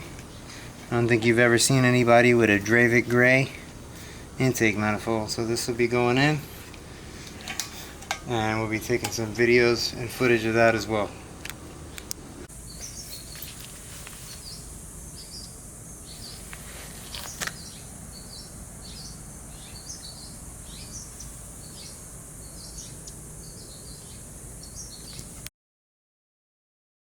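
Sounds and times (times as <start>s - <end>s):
high hiss of outdoor ambience: 0.0s - 25.5s.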